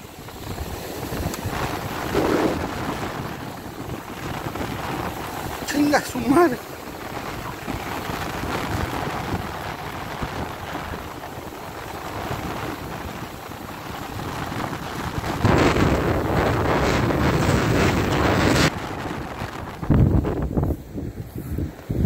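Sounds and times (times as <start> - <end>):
breaking surf: 0.0 - 22.0
wind buffeting microphone: 0.0 - 22.0.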